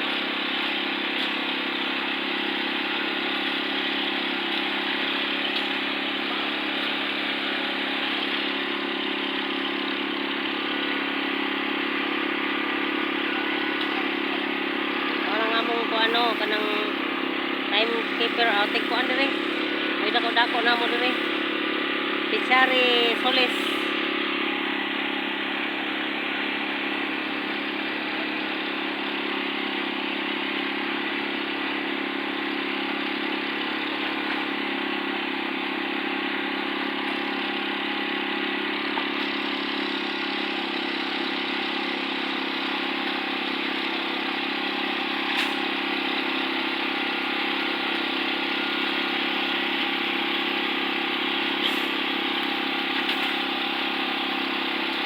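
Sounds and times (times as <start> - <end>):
concrete mixer engine running: 0.0 - 55.0.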